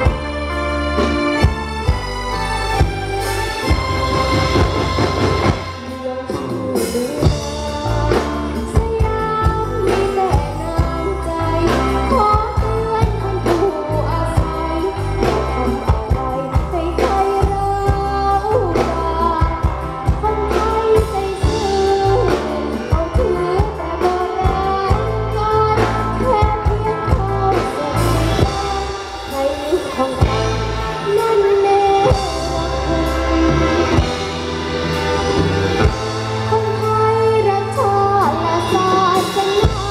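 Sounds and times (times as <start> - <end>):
bass line: 0.0 - 39.9
drum beats: 0.0 - 39.9
person singing: 5.0 - 39.9.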